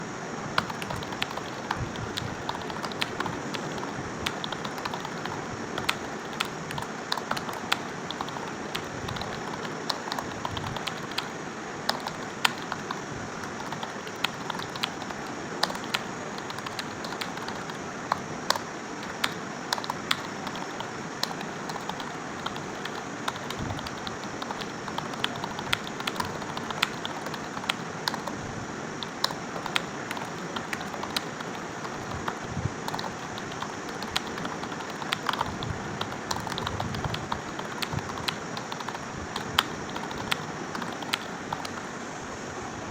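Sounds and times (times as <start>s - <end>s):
background hiss: 0.0s - 42.9s
fast keyboard typing: 0.6s - 41.9s.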